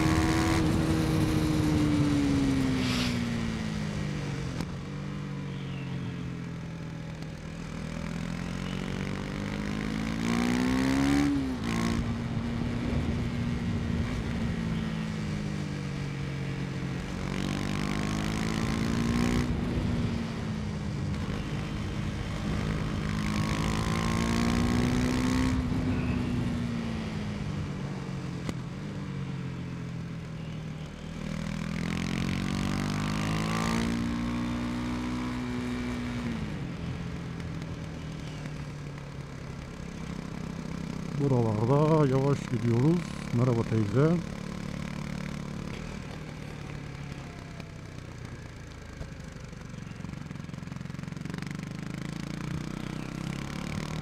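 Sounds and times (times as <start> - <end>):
motorcycle engine revving: 0.0 - 28.2, 30.3 - 54.0.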